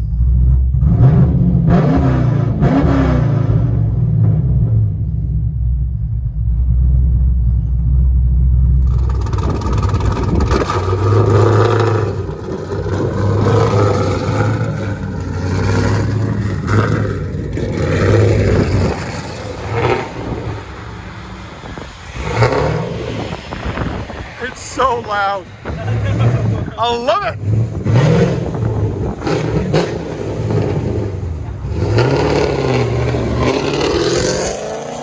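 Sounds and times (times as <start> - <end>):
loud car engine rumbling: 0.0 - 35.0.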